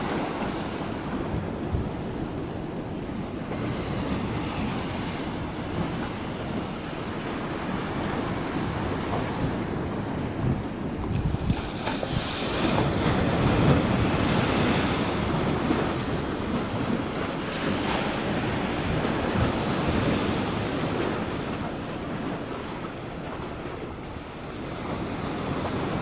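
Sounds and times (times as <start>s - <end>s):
sea water washing against shore: 0.0s - 26.0s
wind gusting across microphone: 0.0s - 26.0s.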